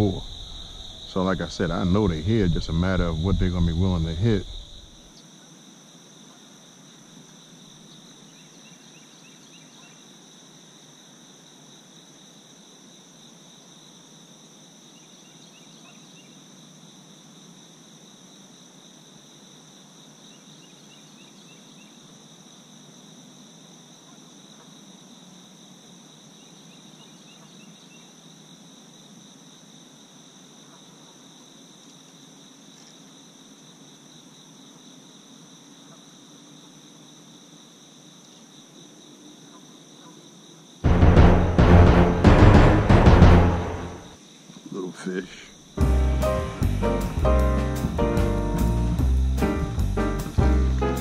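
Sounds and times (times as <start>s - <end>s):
insects chorus: 0.0s - 41.4s, 43.6s - 51.0s.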